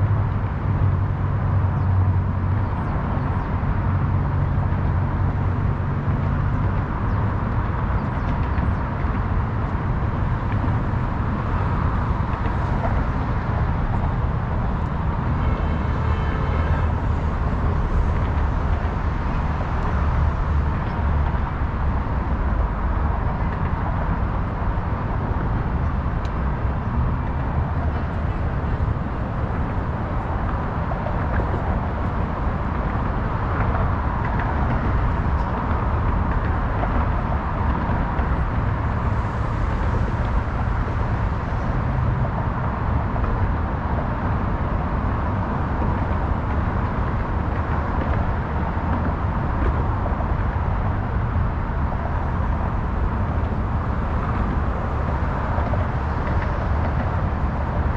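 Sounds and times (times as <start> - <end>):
city traffic rumble: 0.0 - 57.9.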